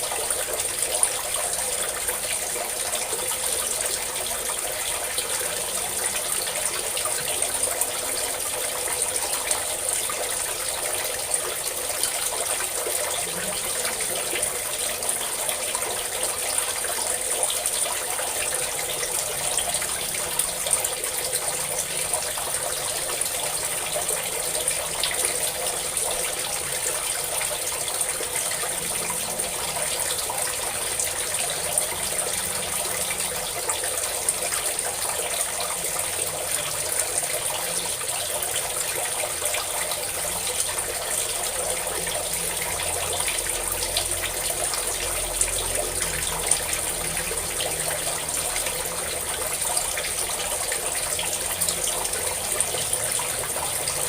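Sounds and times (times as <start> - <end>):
water pouring: 0.0 - 54.0.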